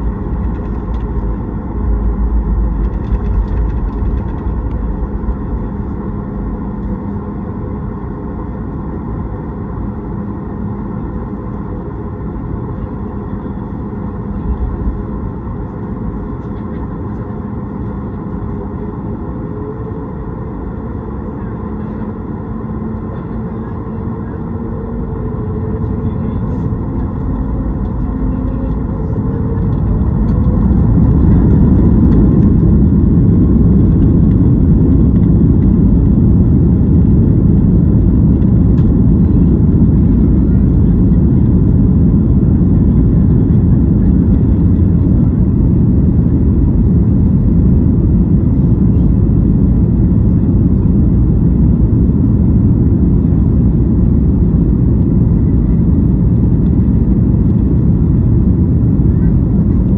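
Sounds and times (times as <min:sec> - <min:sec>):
jet engines at high thrust: 0:00.0 - 0:59.9
wheels rumbling on runway: 0:00.0 - 0:59.9.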